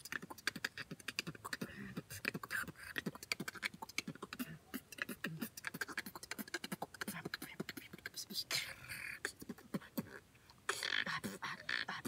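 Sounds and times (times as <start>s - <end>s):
person beatboxing: 0.0s - 12.0s.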